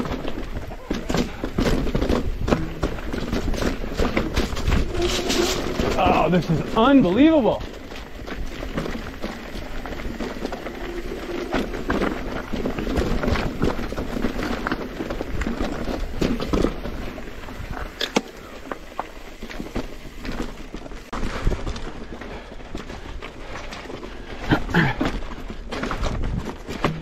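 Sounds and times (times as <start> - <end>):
bike rattling and clattering: 0.0 - 27.0
tyres crunching over stones: 0.0 - 27.0.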